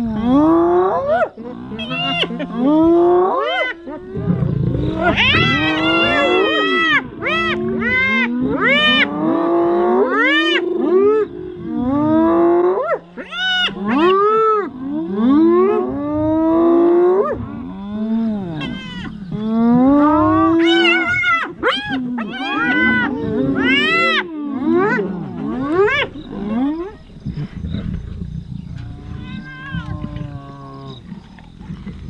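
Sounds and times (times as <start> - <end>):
lions calling: 0.0 - 16.3, 17.2 - 32.0.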